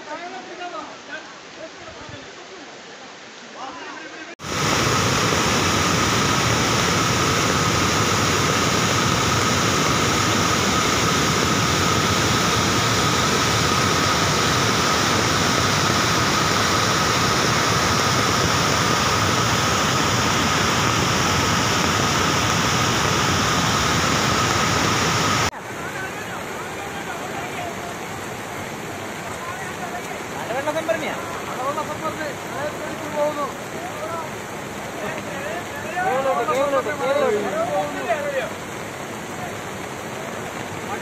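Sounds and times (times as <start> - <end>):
floodwater rushing: 0.1 - 41.0.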